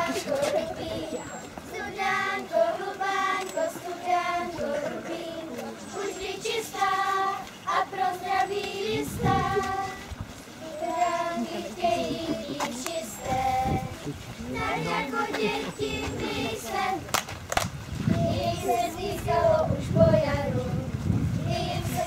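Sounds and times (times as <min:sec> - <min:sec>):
girls singing together: 0:00.0 - 0:17.1, 0:18.1 - 0:22.0.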